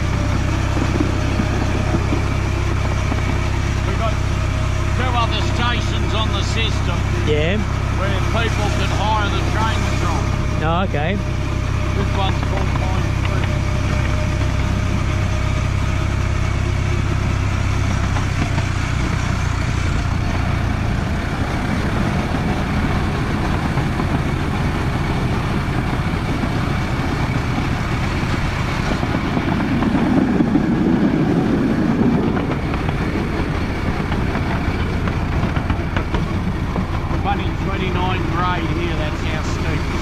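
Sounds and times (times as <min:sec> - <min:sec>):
miniature train engine drone: 0:00.0 - 0:40.0
train rumble: 0:00.0 - 0:40.0.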